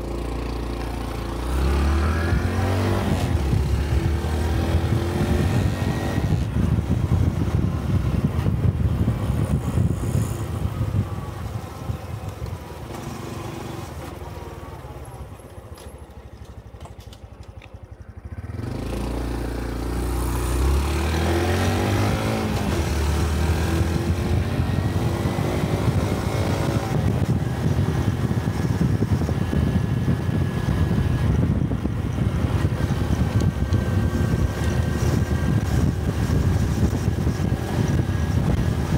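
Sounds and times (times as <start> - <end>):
wind noise: 0.0 - 14.2, 18.4 - 38.9
motorcycle engine running: 0.0 - 38.9.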